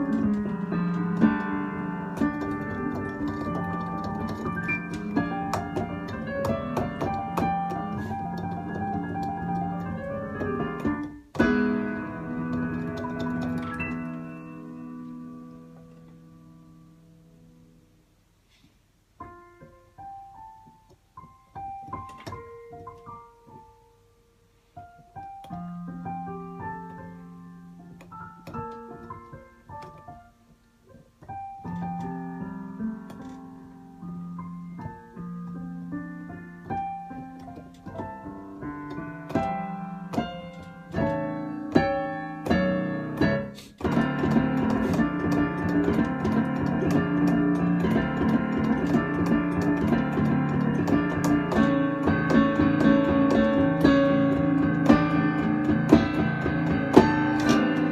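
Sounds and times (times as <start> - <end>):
piano melody: 0.0 - 18.3, 19.0 - 57.9.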